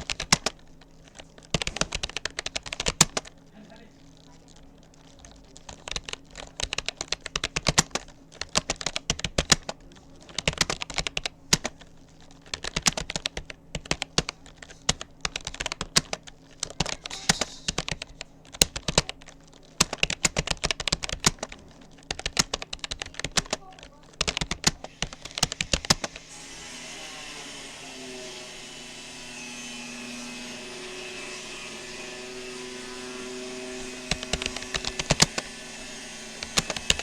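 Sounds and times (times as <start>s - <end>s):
typing on computer keyboard: 0.0s - 26.4s, 32.1s - 37.0s.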